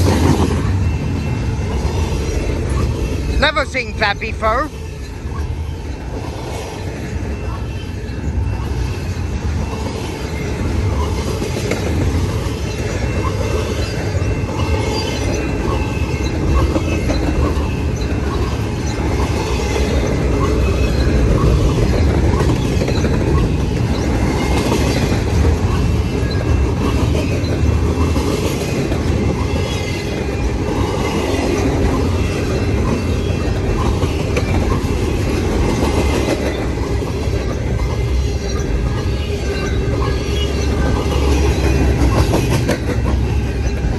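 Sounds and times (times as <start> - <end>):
steel wheels rumbling on rails: 0.0 - 43.9.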